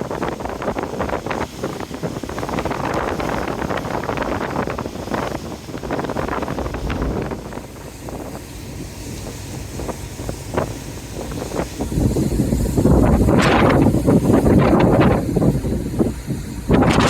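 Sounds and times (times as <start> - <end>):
gusty wind buffeting microphone: 0.0 - 17.0
low rumble: 2.0 - 17.0.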